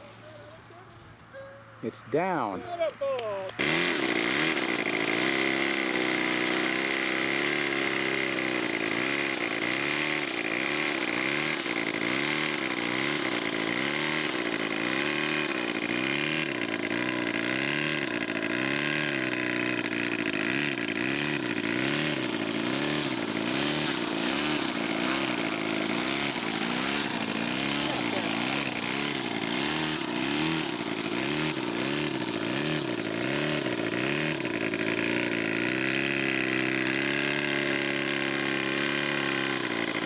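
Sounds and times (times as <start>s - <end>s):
model aircraft engine idling: 2.6s - 40.0s.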